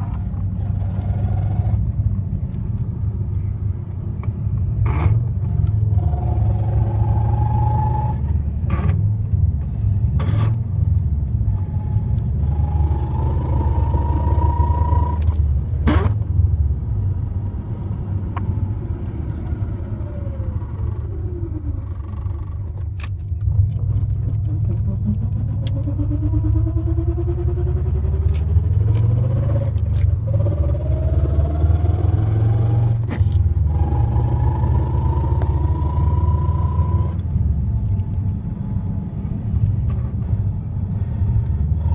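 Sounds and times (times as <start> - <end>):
car engine low rumble: 0.0 - 41.9
drivetrain whine: 0.0 - 41.9.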